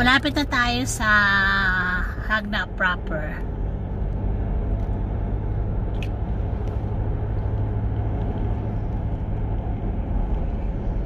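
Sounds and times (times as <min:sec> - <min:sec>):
tyre and road noise: 0:00.0 - 0:11.0
vehicle engine hum: 0:00.0 - 0:11.0.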